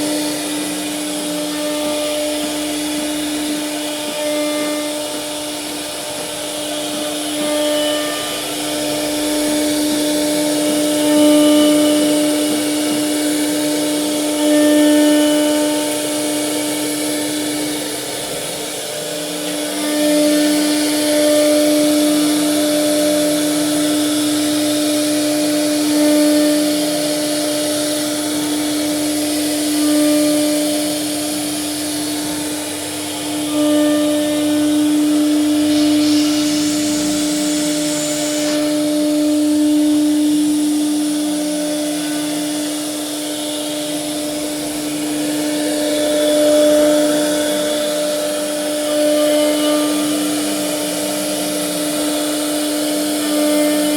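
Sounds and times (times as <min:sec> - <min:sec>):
hiss: 0:00.0 - 0:53.9
wood router whining: 0:00.0 - 0:53.9.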